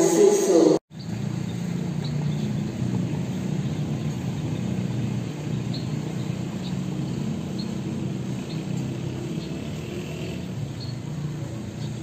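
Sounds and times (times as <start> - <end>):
low engine hum: 0.9 - 12.0.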